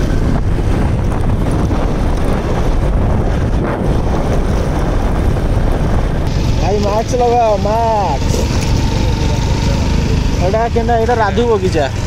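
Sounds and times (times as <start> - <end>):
road and engine noise: 0.0 - 12.0
wind buffeting microphone: 0.0 - 12.0.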